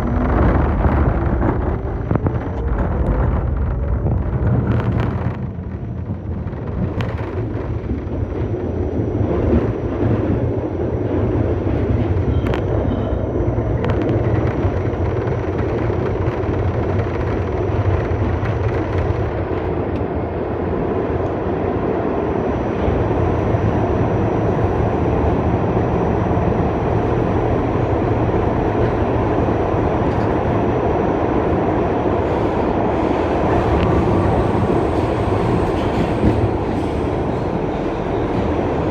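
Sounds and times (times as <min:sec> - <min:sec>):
rumble of train wheels on rail: 0:00.0 - 0:38.9.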